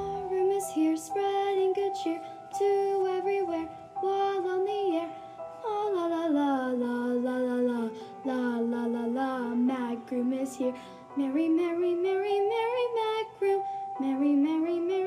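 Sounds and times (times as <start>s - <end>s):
christmas song with backing music: 0.0s - 15.0s.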